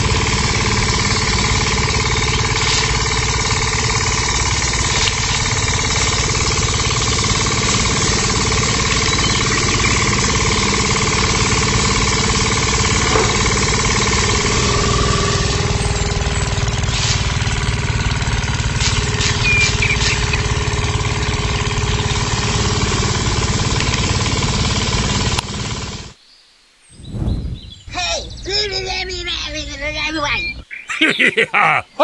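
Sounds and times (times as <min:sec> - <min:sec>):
thresher roller rattle: 0:00.0 - 0:26.1
small electric motor whine: 0:00.0 - 0:26.2.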